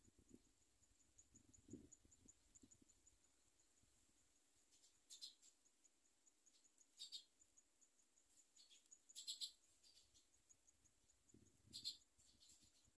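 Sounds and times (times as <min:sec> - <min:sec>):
nestling birds peeping: 0:00.1 - 0:13.0.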